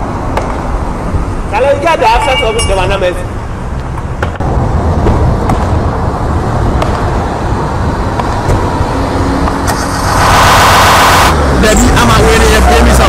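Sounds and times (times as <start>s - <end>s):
passing vehicles rumble: 0.0s - 13.0s.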